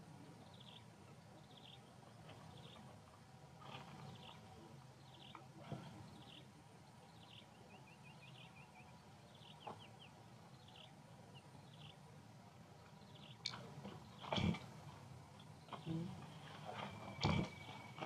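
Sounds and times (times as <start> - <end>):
small birds chirping: 0.1 - 12.2, 12.8 - 18.0.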